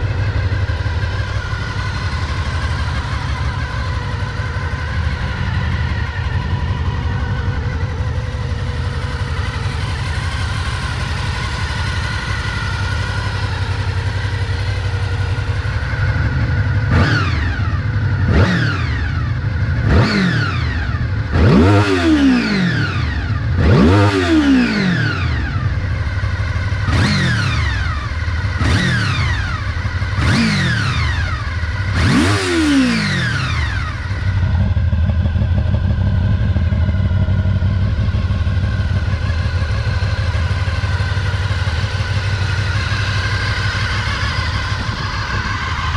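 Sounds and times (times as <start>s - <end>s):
engine revving in throttle blips: 0.0s - 45.9s
motorcycle engine idling: 0.0s - 45.9s.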